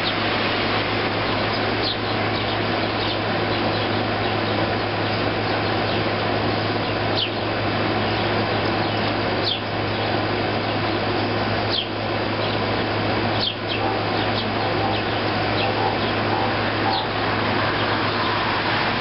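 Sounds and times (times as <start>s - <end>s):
air conditioner running: 0.0s - 19.0s
sparrows chirping: 1.3s - 18.8s.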